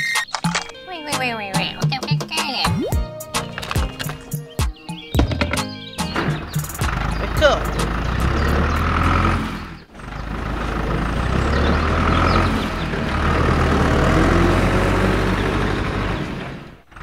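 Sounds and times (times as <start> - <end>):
vehicle engine humming: 3.2 - 17.0.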